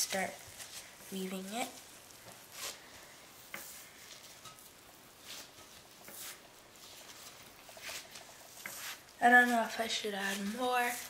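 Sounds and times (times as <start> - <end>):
gloved hands kneading dough: 0.0 - 11.0.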